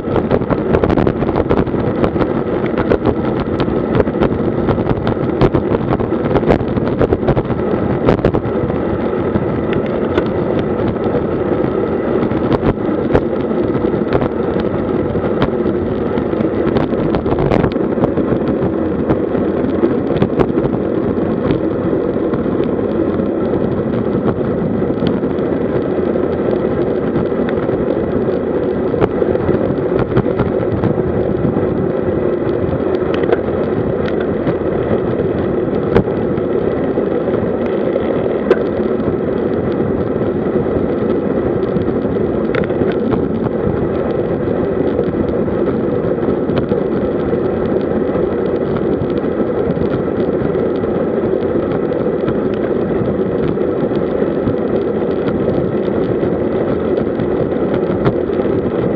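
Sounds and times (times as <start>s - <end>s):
bike tyre noise on road: 0.0s - 58.9s
wind rush on microphone: 0.0s - 58.9s.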